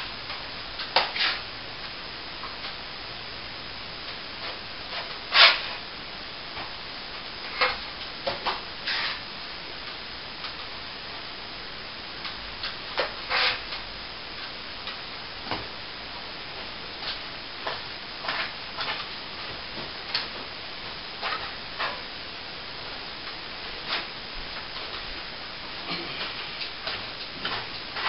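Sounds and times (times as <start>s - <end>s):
steady background hiss: 0.0s - 28.0s.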